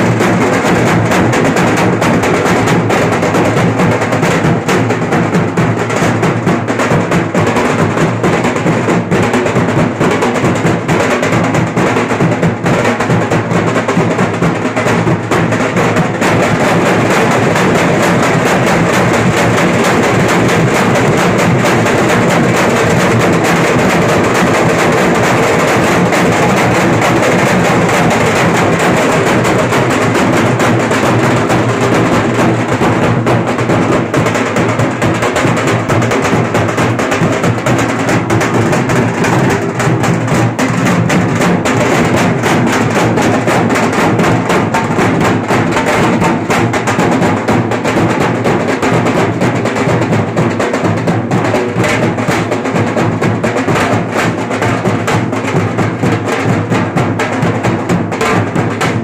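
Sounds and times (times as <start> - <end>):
ensemble of barrel drums: 0.0 - 59.0.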